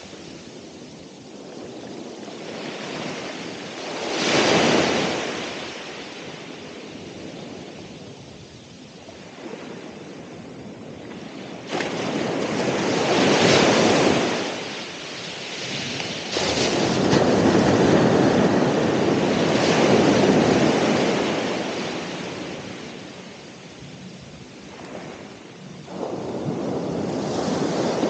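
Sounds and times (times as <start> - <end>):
ocean waves breaking: 0.0 - 8.0, 9.0 - 28.0.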